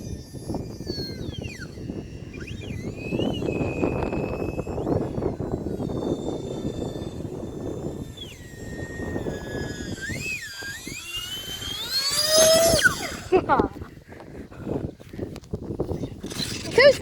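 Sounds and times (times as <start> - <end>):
electric ducted fans whining: 0.0 - 17.0
wind rumbling on microphone: 0.0 - 17.0.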